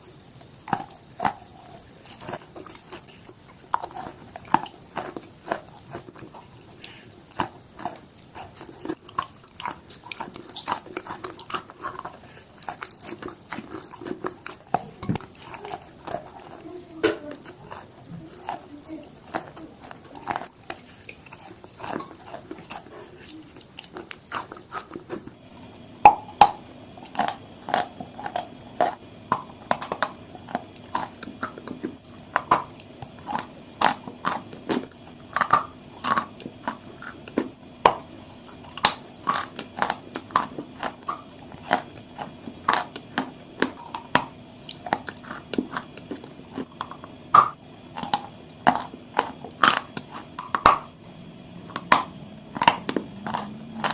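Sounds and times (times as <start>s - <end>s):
person chewing chalk crunches: 0.0s - 53.9s.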